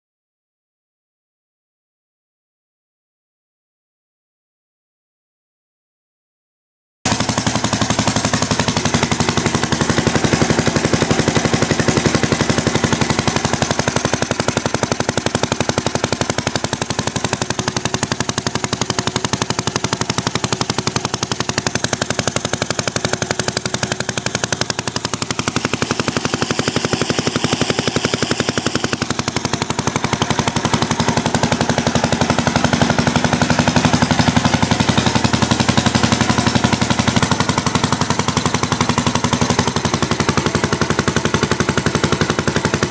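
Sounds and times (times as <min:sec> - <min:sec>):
stationary engine running: 0:07.1 - 0:42.9.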